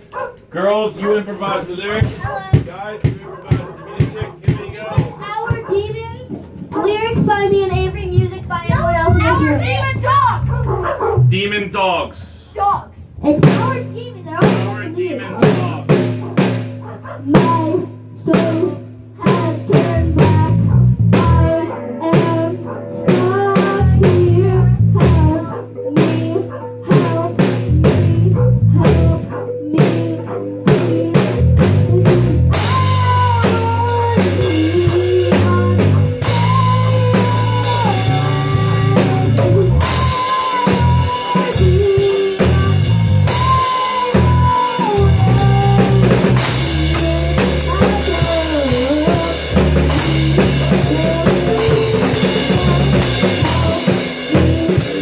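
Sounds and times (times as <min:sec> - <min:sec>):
drum kit beat with cymbals: 0:00.0 - 0:11.8, 0:12.5 - 0:55.0
electric bass line: 0:05.7 - 0:55.0.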